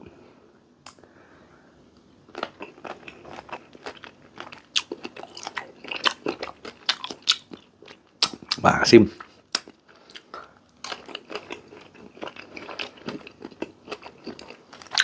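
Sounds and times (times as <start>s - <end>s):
crunchy fruit chewing: 2.3s - 15.0s.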